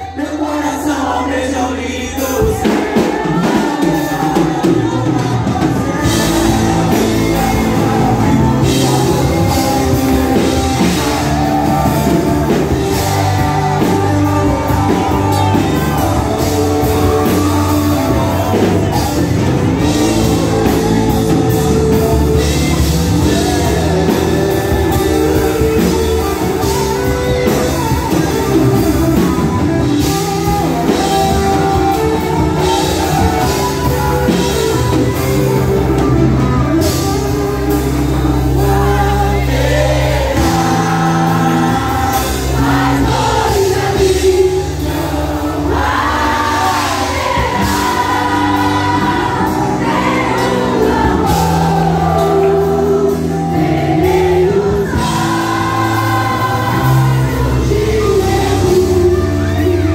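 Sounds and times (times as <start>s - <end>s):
choir singing: 0.0s - 59.9s
live band with drums and bass: 0.0s - 59.9s.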